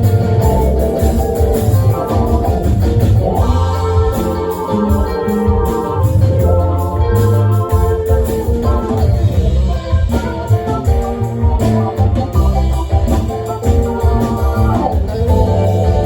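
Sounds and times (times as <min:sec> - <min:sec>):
drums keeping a beat: 0:00.0 - 0:16.0
guitar: 0:00.0 - 0:16.0
heavy bass line: 0:00.0 - 0:16.0
organ: 0:00.0 - 0:16.0.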